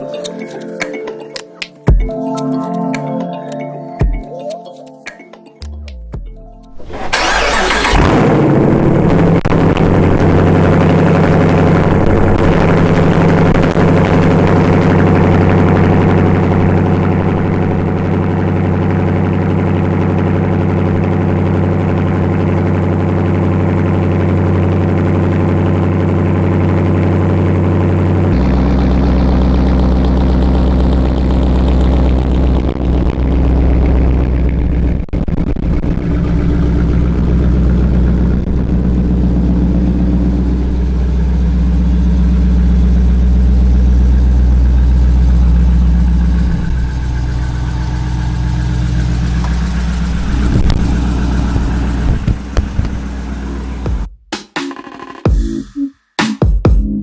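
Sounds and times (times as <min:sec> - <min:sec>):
car engine idling: 0:06.8 - 0:54.1.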